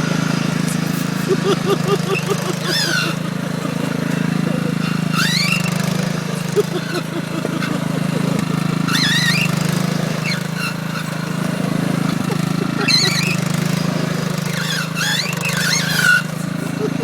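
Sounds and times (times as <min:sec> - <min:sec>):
lawn mower engine running: 0:00.0 - 0:17.0
high-pitched squeals: 0:00.6 - 0:03.2, 0:03.8 - 0:07.8, 0:08.6 - 0:11.2, 0:12.1 - 0:17.0.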